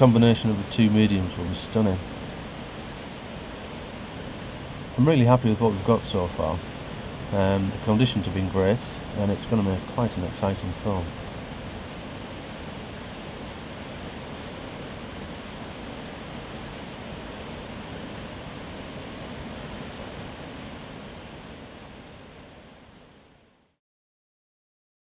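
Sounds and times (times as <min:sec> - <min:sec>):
waterfall rushing: 0:00.0 - 0:21.5.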